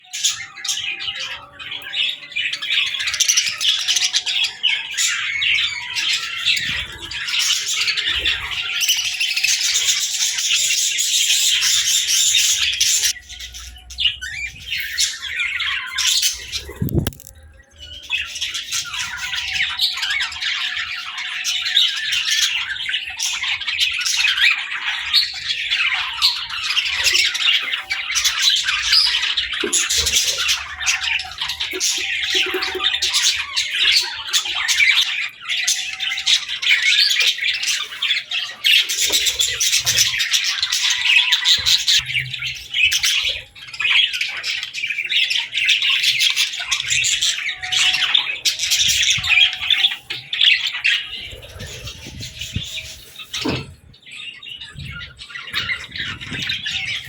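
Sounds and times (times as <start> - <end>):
budgies chirping and chattering: 0.0 - 57.0.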